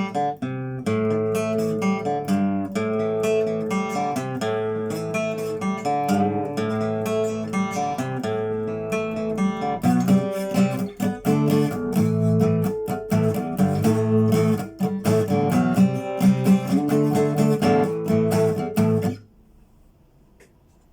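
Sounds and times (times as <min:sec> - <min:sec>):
acoustic guitar strummed chords: 0:00.0 - 0:19.4.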